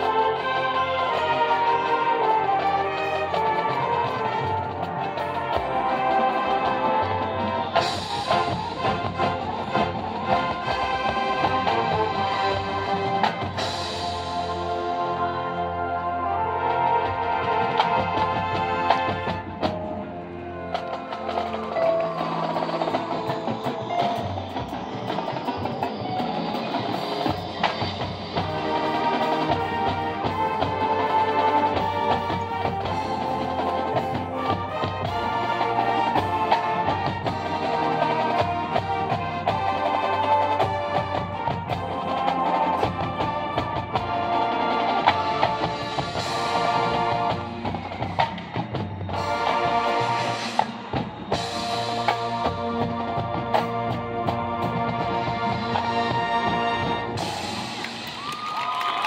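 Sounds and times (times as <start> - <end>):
marching band playing: 0.0 - 59.0.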